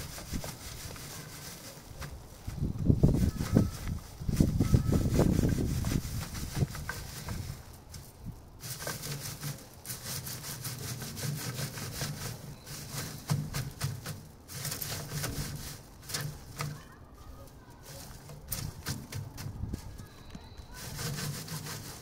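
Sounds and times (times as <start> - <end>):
seed heads scraping on wire mesh: 0.0 - 22.0.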